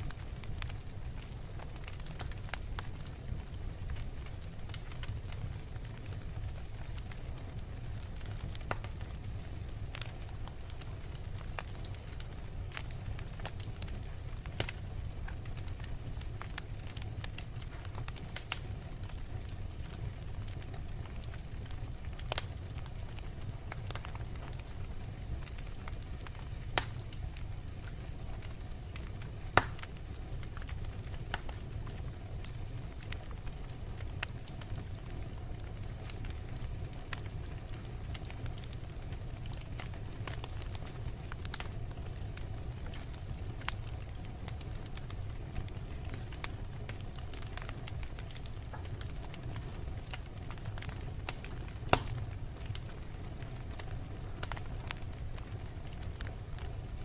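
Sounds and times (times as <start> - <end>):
fire crackles and pops: 0.0 - 57.0
low rumble of flame: 0.0 - 57.0.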